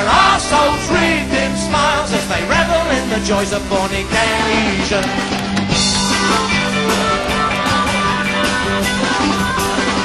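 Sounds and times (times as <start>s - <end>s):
drum beat: 0.0s - 10.0s
electric guitar: 0.0s - 10.0s
rock band playing: 0.0s - 10.0s.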